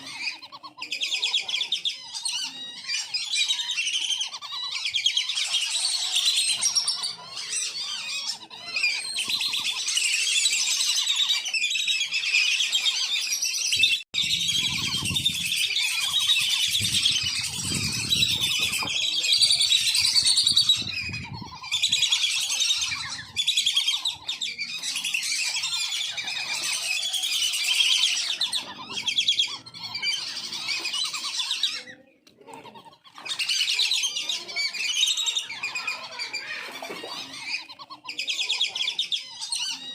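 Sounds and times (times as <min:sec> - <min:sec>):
ducks whistling and twittering: 0:00.0 - 0:39.9.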